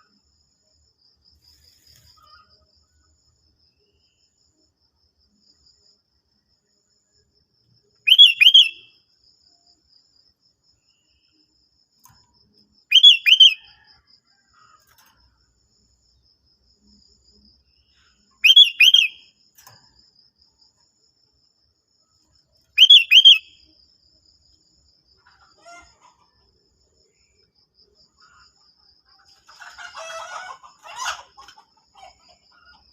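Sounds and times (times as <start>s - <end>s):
faint insect trill: 0.0s - 32.9s.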